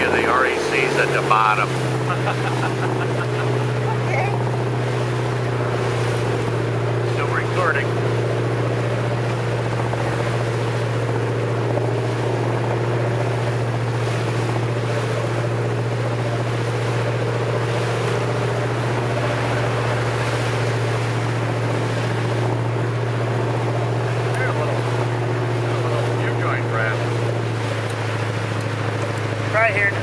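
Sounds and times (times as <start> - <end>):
motorboat engine droning: 0.0 - 30.0
wind and water rushing: 0.0 - 30.0.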